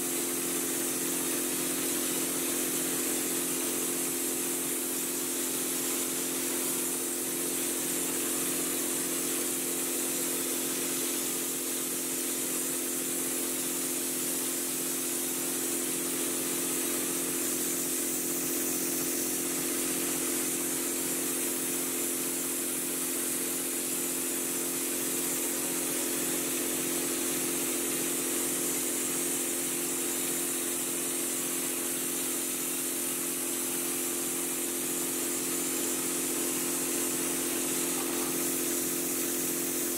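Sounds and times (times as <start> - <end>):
air compressor running: 0.0 - 39.9
compressed air hissing: 0.0 - 39.9.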